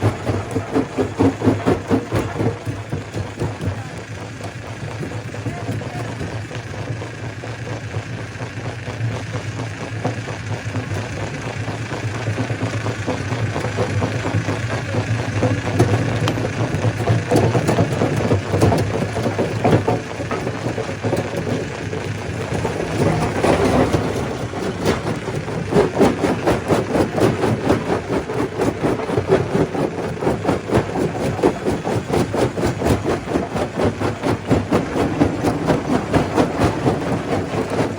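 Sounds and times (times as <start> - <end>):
rocks rattling and knocking: 0.0 - 6.7, 12.6 - 37.9
stone crusher drone: 0.0 - 7.3, 9.9 - 37.9.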